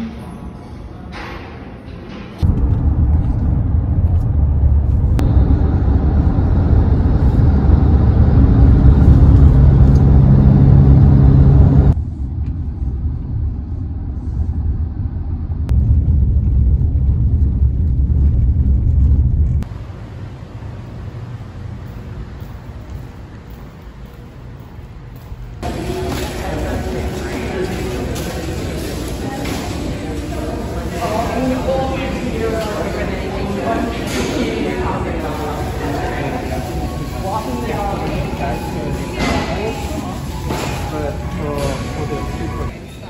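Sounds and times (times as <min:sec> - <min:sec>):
car road and engine rumble: 0:02.4 - 0:38.0.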